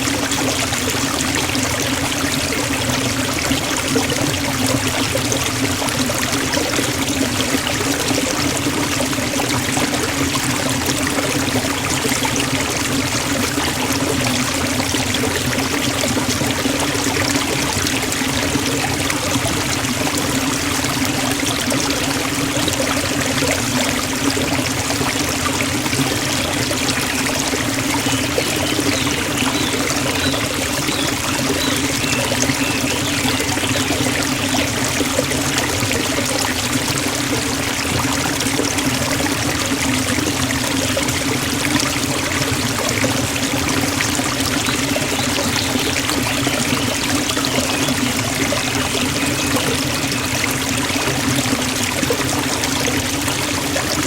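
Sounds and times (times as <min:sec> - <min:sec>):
waterfall rushing and splashing: 0:00.0 - 0:54.0.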